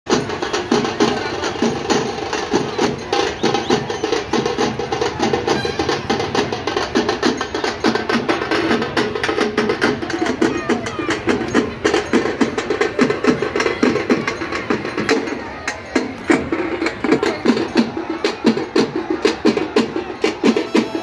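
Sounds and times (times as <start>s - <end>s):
drums beaten fast: 0.1s - 21.0s.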